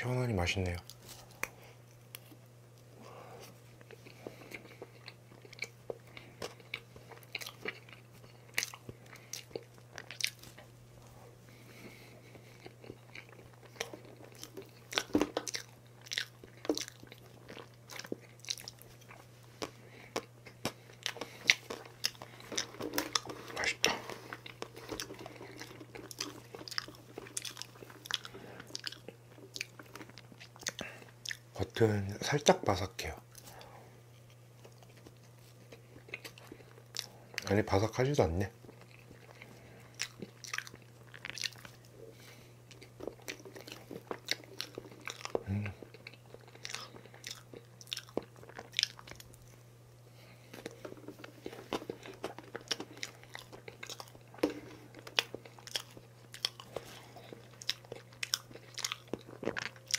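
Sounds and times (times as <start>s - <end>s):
steady low hum: 0.0s - 59.9s
person chewing cake: 0.7s - 59.9s.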